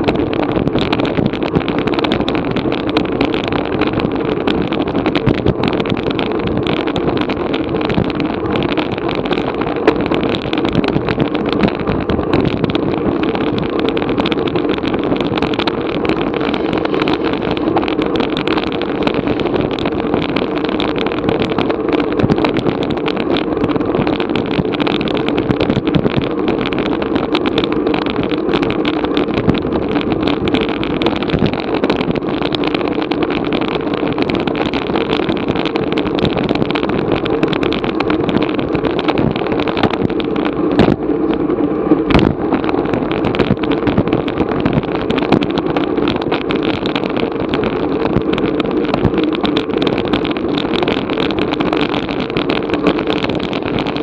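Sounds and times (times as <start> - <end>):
road noise: 0.0 - 54.0
wind rush: 0.0 - 54.0.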